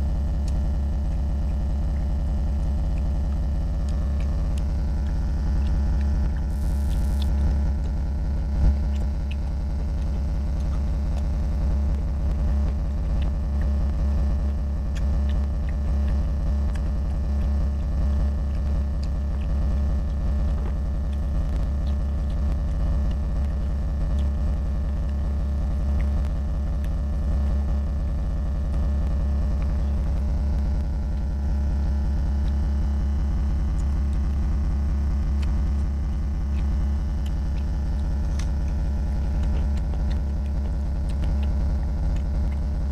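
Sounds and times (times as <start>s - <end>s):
steady low hum: 0.0s - 42.9s
chewing: 0.2s - 31.4s, 32.4s - 42.9s.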